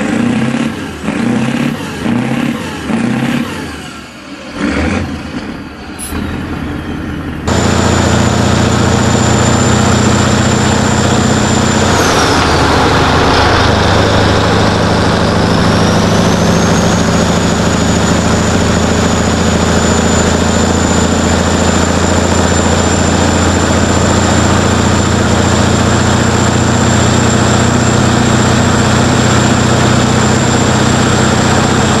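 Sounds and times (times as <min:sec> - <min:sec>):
diesel truck engine running: 0:00.0 - 0:32.0
thin high whine: 0:05.8 - 0:31.9.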